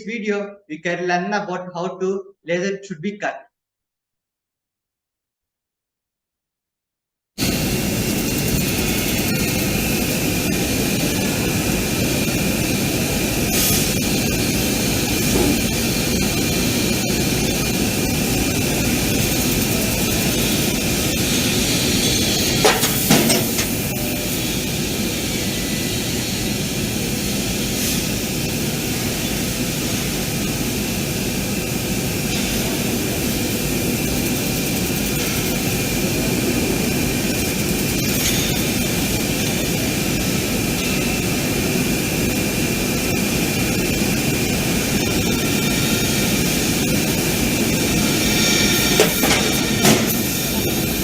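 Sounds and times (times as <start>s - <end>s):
laser cutter rushing gas noise: 7.4s - 51.0s.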